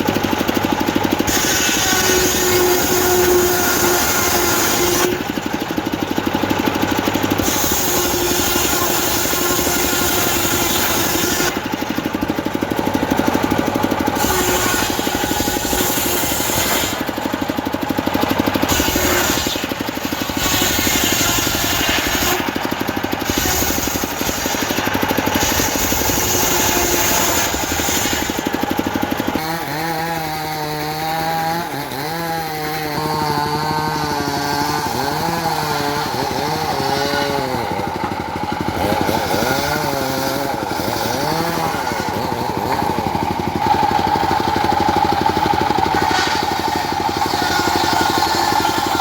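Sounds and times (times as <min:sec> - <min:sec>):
circular saw blade cutting wood: 0:00.0 - 0:49.0
diesel engine running: 0:00.0 - 0:49.0.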